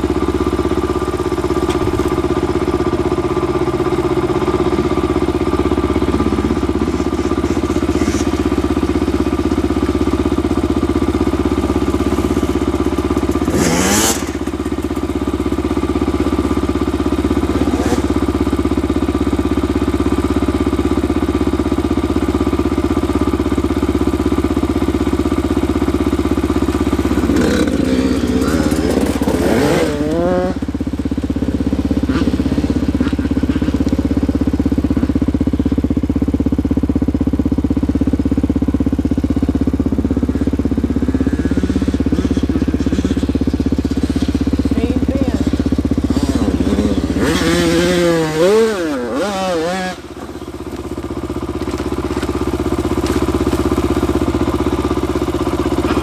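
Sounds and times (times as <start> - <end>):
dirt bike engine idling and revving: 0.0 - 56.0.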